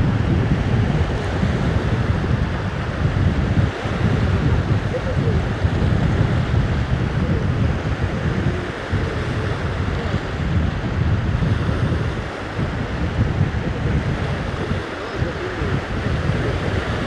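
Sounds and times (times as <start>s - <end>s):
small waves breaking on shore: 0.0s - 17.0s
wind buffeting microphone: 0.0s - 17.0s.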